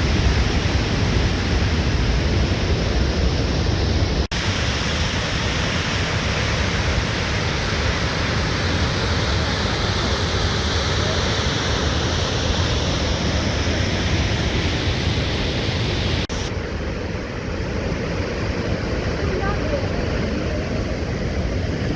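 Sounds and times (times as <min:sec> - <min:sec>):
waterfall roar: 0:00.0 - 0:21.9.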